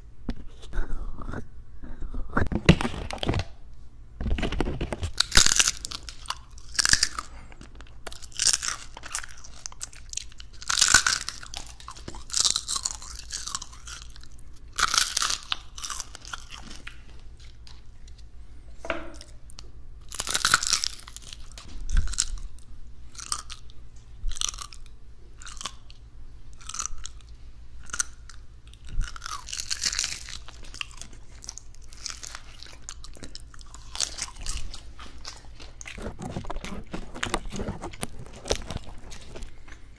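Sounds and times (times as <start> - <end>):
crunchy biting: 4.3 - 18.3, 19.2 - 23.7, 24.3 - 39.9
soft chewing: 4.6 - 39.9.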